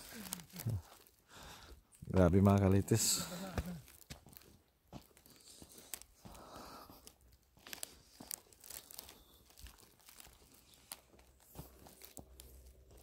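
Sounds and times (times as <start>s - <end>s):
footsteps crunching in snow: 0.0s - 1.2s, 2.0s - 13.0s
small crackles: 0.0s - 13.0s.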